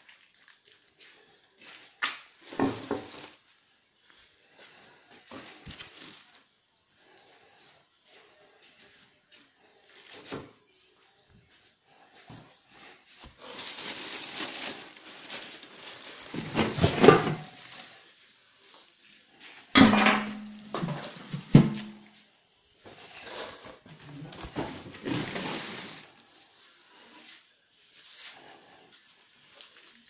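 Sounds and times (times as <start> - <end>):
cardboard and plastic rustling: 0.0 - 4.1, 4.7 - 6.6, 9.8 - 10.7, 12.2 - 22.2, 22.8 - 30.0.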